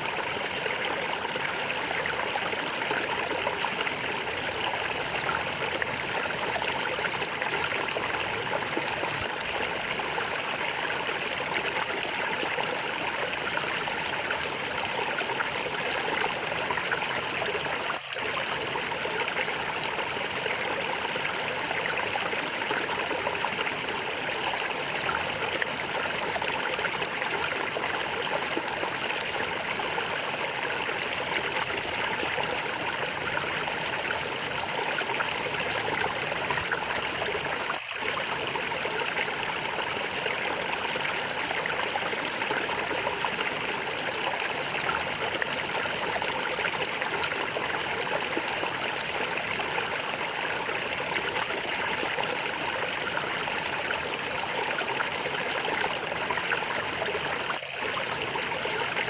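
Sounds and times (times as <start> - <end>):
stream water gurgling: 0.0 - 59.0.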